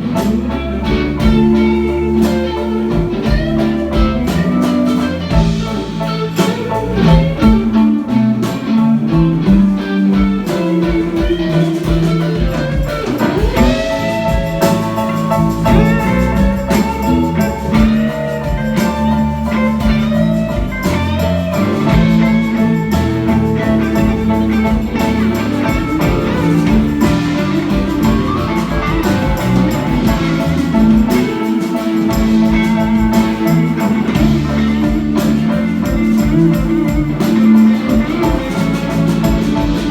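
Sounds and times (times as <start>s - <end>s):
electric guitar: 0.0s - 39.9s
live band playing: 0.0s - 39.9s.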